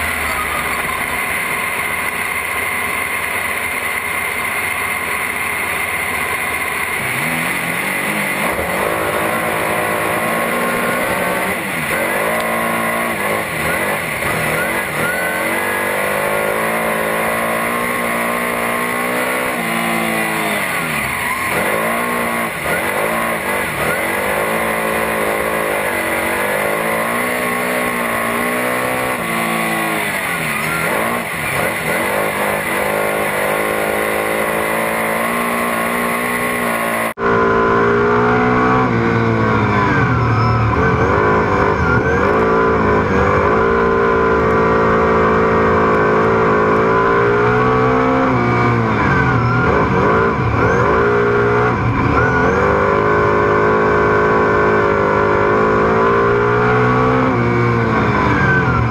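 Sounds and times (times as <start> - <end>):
race car engine: 0.0 - 58.9.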